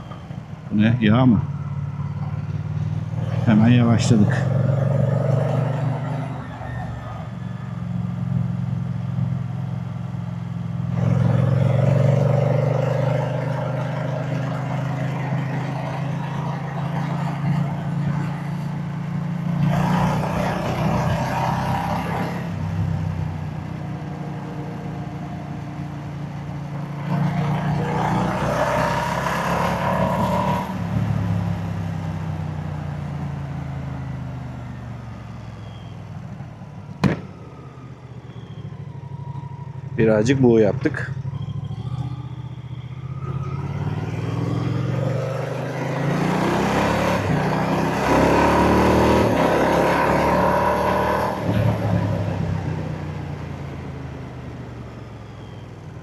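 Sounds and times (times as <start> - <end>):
motorcycle engine and exhaust: 0.0 - 56.0.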